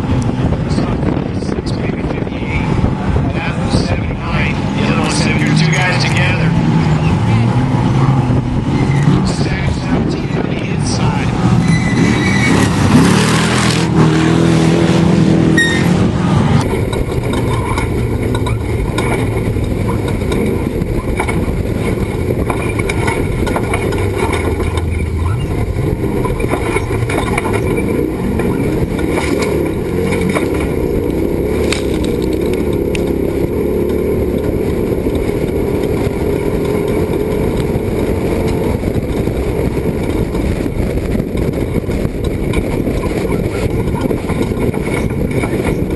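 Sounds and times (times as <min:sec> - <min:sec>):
truck engine running hard: 0:00.0 - 0:45.9.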